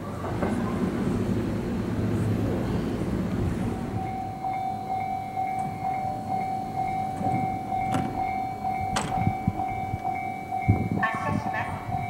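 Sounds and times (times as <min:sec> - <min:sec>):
electric train whine: 0:00.0 - 0:12.0.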